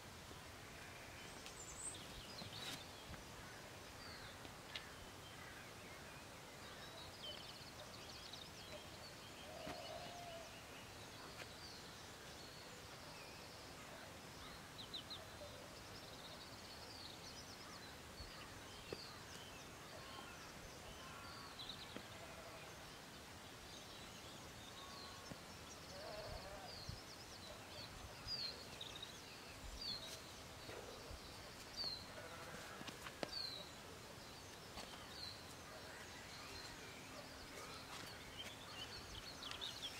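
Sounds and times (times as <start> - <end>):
faint outdoor background noise: 0.0 - 39.9
birds chirping and trilling: 0.8 - 23.2, 23.8 - 39.9.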